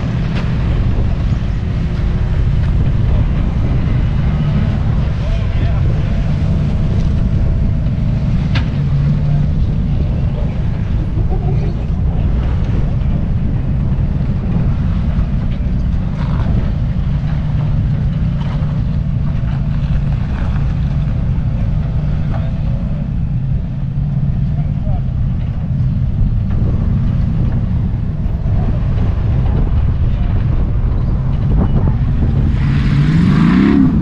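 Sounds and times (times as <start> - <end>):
truck engine under load: 0.0 - 34.0
wind on microphone: 0.0 - 34.0.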